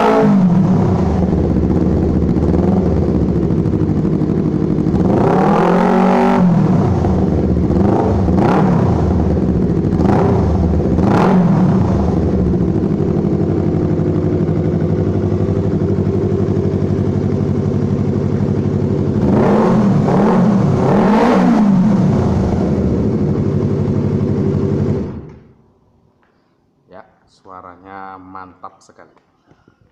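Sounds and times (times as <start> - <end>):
motorcycle engine idling: 0.5 - 25.4.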